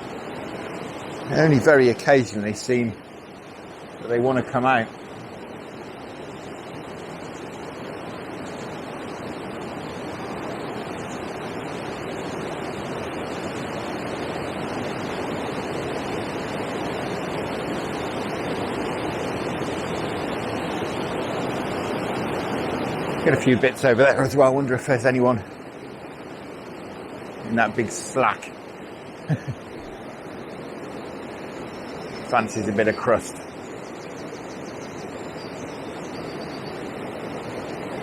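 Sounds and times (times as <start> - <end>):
water rushing over a weir: 0.0 - 38.0.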